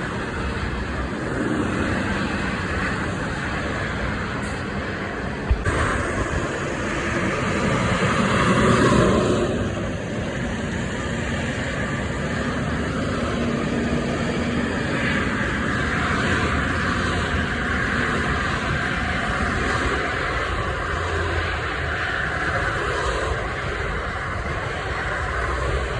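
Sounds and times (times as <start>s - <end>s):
street traffic: 0.0s - 25.9s.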